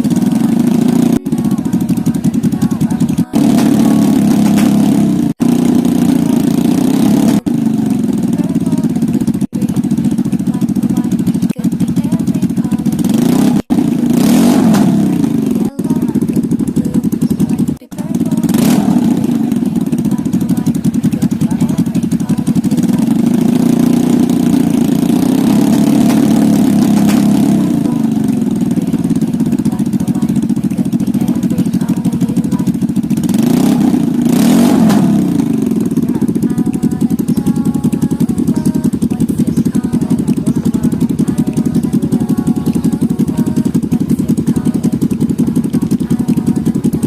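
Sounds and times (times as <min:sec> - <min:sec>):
small engine idling and revving: 0:00.0 - 0:47.0.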